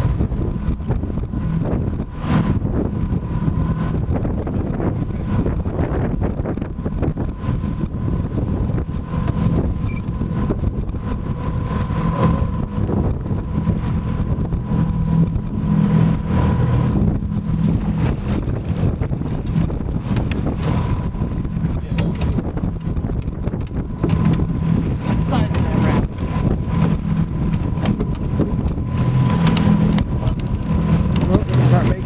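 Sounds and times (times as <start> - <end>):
boat motor running: 0.0 - 32.0
wind buffeting microphone: 0.0 - 32.0.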